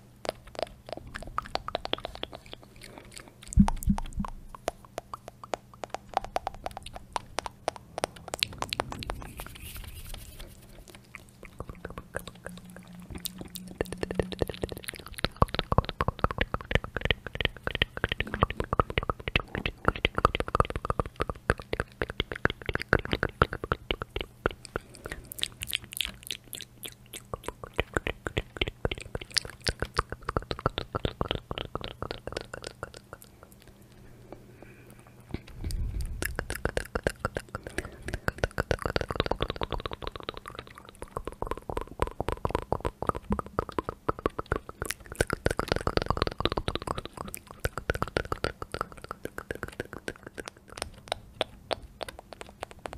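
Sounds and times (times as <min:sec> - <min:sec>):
wet mouth clicks and smacks: 0:00.0 - 0:52.9.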